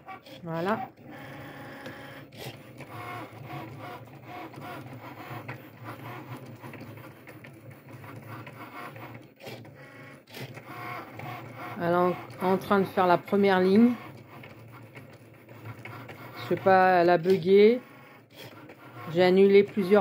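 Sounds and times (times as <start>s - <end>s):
cutting machine motors whining: 0.0s - 20.0s.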